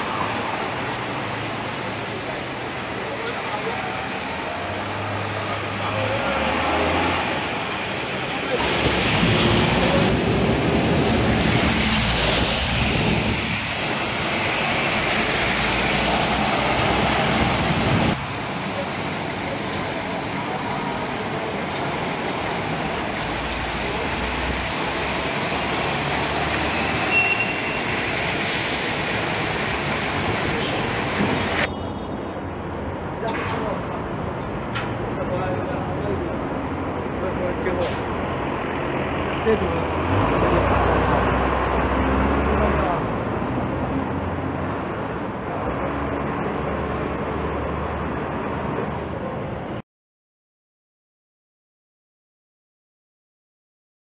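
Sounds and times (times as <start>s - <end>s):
bus passing on wet street: 0.0s - 49.8s
quieter street sound: 0.0s - 49.8s.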